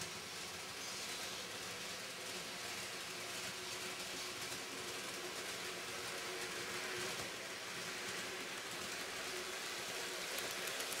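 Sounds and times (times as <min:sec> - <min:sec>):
model train wheels rattling: 0:00.0 - 0:11.0.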